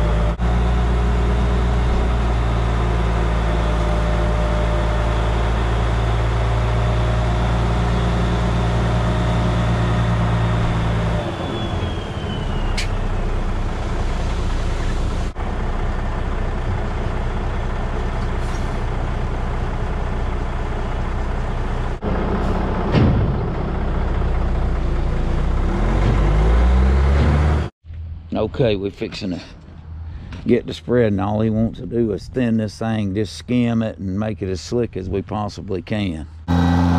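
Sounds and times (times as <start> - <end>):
dump truck engine running: 0.0 - 30.5, 36.4 - 36.9.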